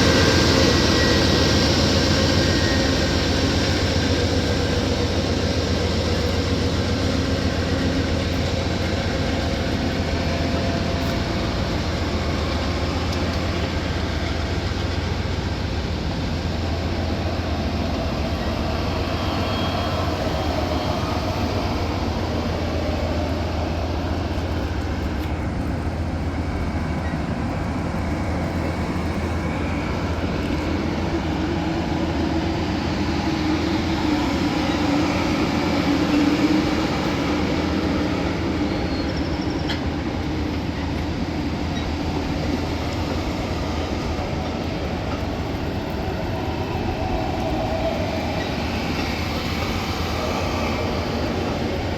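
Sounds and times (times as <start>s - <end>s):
low train hum: 0.0s - 51.9s
train wheels rumbling on rails: 0.0s - 51.9s.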